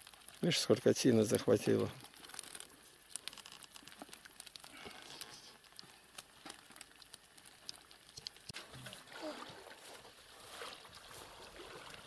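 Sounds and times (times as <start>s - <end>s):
hands sorting wet fish in net: 0.0s - 12.0s.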